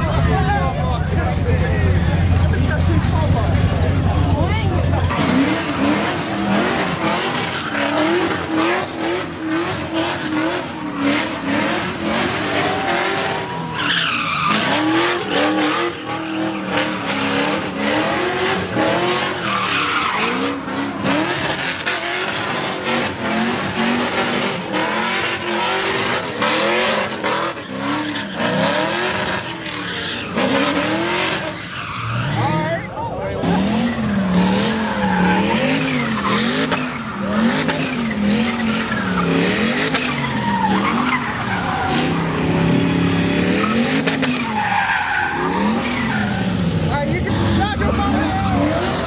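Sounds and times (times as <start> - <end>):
car engine revving: 0.0 - 49.0
tyres screeching: 4.4 - 49.0.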